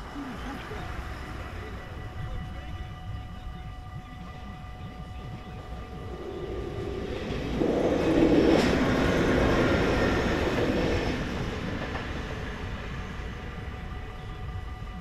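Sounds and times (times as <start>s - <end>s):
crossing warning bells ringing: 0.0s - 15.0s
train rumbling past: 0.0s - 15.0s.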